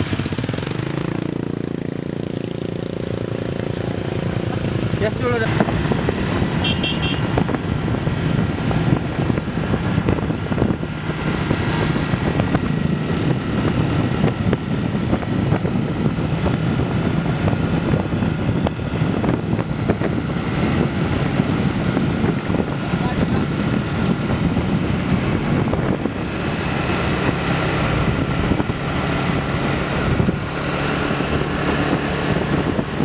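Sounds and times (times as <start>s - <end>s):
road and wind noise: 0.0s - 33.0s
small motorbike engine running: 0.0s - 33.0s.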